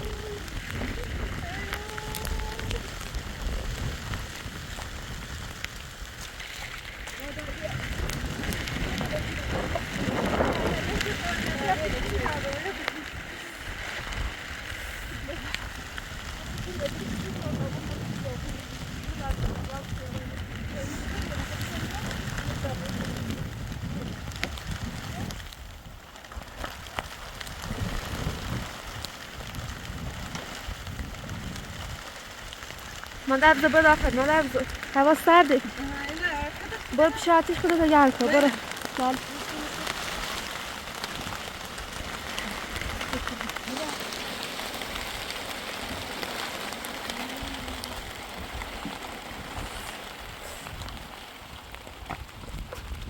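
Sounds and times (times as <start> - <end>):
steady rain: 0.0 - 53.0
wind rumbling on microphone: 0.0 - 53.0.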